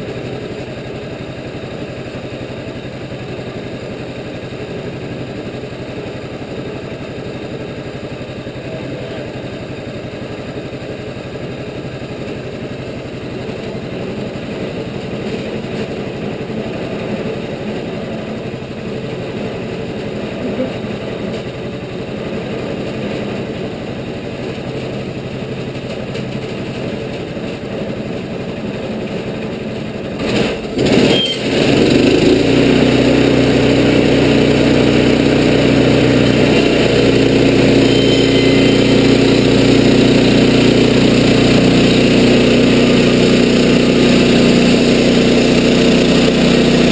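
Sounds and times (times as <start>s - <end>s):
engine throttle clatter: 0.0s - 46.9s
sawmill engine running: 0.0s - 46.9s.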